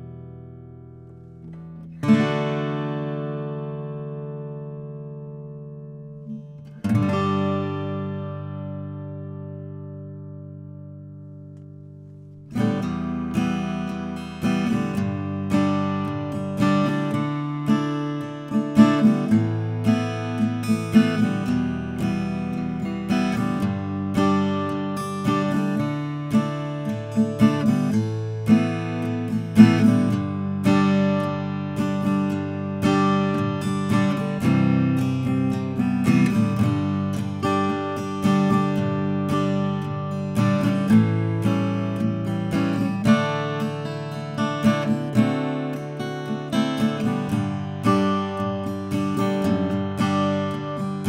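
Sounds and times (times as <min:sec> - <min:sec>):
acoustic guitar strummed: 0:00.0 - 0:51.0.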